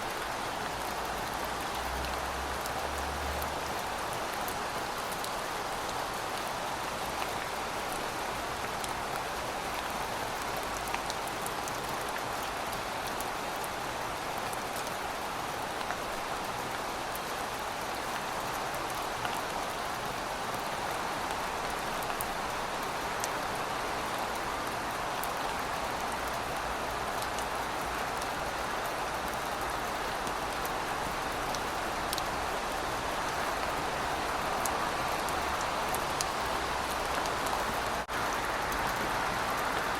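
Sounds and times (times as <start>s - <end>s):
rain falling on pavement: 0.0s - 39.9s.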